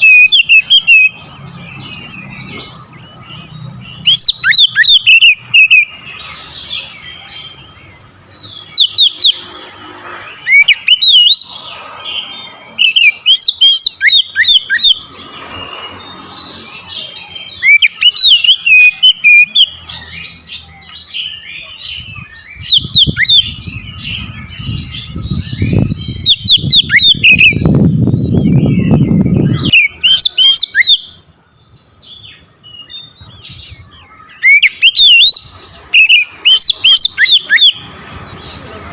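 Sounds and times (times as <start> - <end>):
bird whistles and chirps: 0.0 - 38.9.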